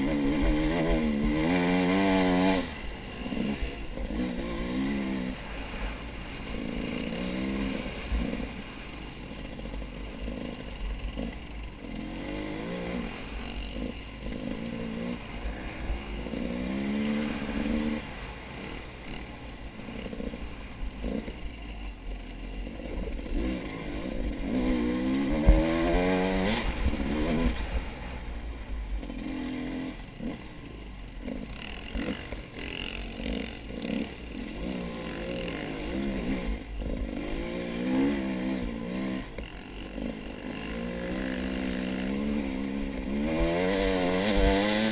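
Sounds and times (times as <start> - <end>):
vehicle engine revving: 0.0 - 21.6, 22.6 - 44.9.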